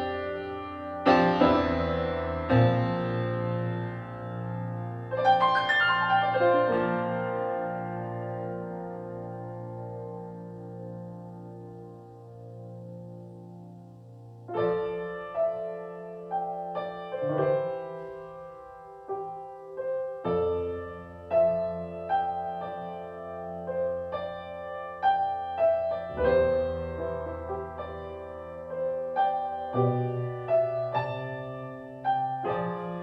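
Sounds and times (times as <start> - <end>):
gentle keyboard melody: 0.0 - 33.0.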